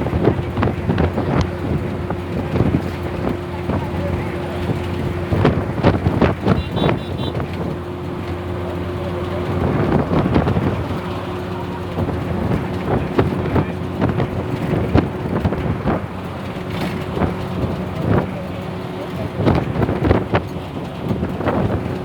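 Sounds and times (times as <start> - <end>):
bus body rattling: 0.0 - 22.0
bus engine droning: 0.0 - 22.0.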